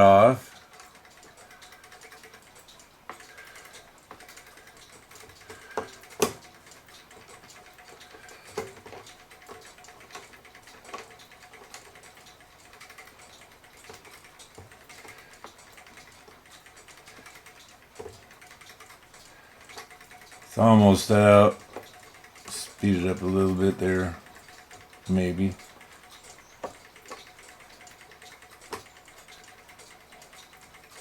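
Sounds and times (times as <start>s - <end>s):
small hand tools clicking: 0.0s - 31.0s.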